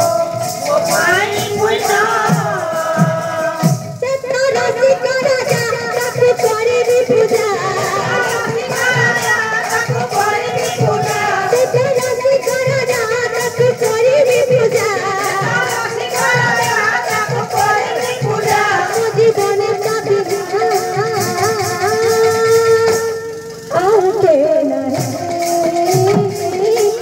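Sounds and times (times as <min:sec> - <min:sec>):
barrel drum beats: 0:00.0 - 0:27.0
metallic jingle: 0:00.0 - 0:27.0
woman singing devotional melody: 0:00.0 - 0:27.0.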